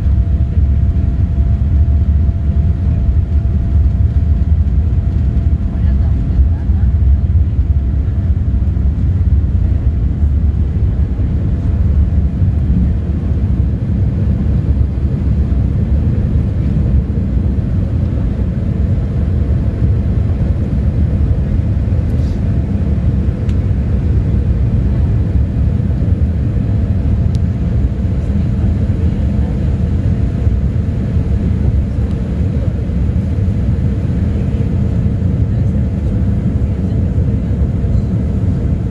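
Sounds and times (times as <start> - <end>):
jet engines low rumble in cabin: 0.0 - 38.9.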